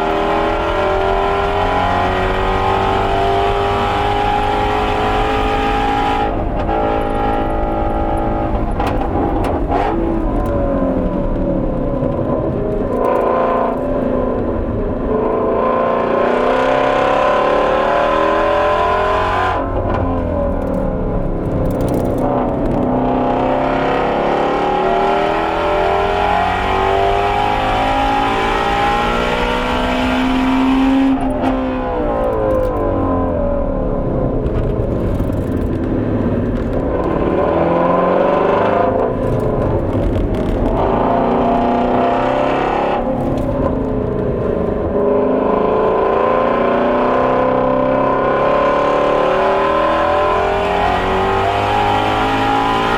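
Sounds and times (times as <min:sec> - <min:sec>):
car engine revving hard: 0:00.0 - 0:11.1, 0:13.0 - 0:20.8, 0:21.5 - 0:33.4, 0:35.0 - 0:52.9.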